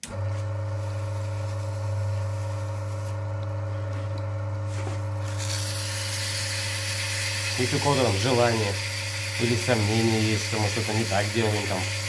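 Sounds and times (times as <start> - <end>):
electric motor humming: 0.0 - 12.0
abrasive paper scraping hiss: 0.7 - 3.2, 4.7 - 12.0.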